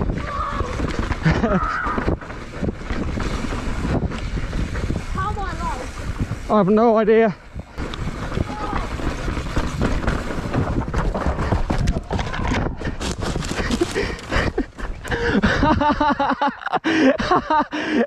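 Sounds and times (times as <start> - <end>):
wind on microphone: 0.0 - 6.5, 7.4 - 16.0
bike tyres rattling on trail: 0.0 - 18.0.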